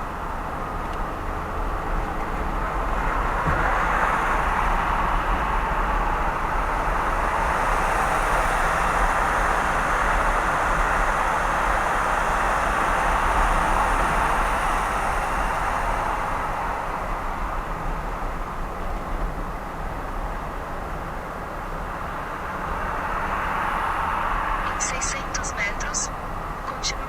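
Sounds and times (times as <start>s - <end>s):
car road and tyre noise: 0.0s - 27.0s.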